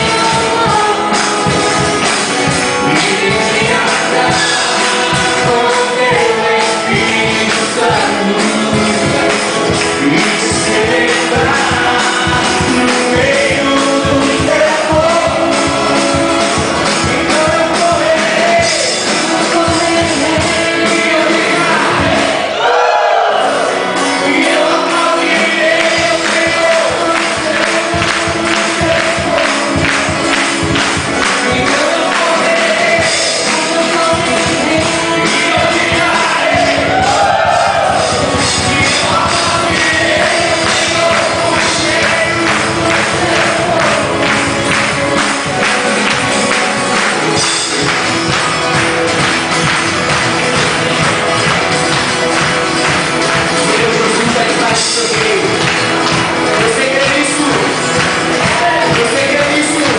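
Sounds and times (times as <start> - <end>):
gospel band playing: 0.0 - 59.9
people singing: 0.0 - 59.9.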